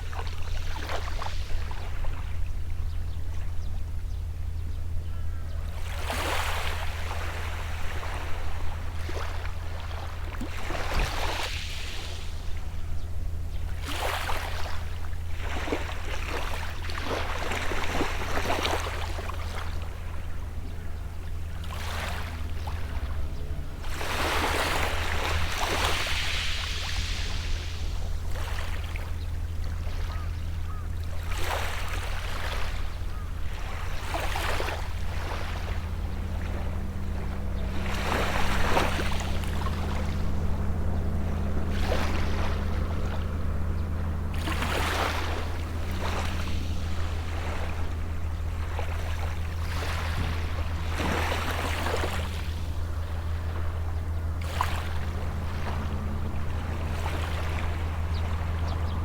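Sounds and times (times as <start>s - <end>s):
small waves breaking on shore: 0.0s - 4.0s, 5.3s - 59.0s
distant boat engine drone: 0.0s - 59.0s.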